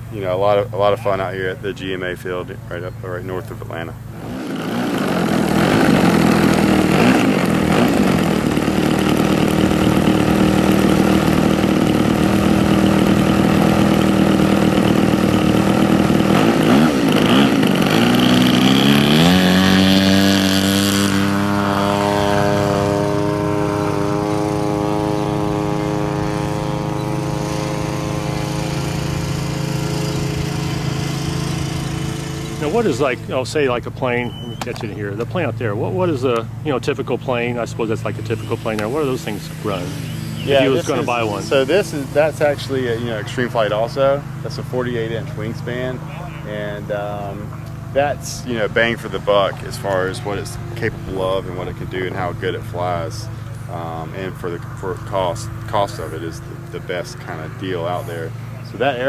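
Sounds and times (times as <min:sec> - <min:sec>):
model plane gas engine running: 0:00.0 - 0:59.0.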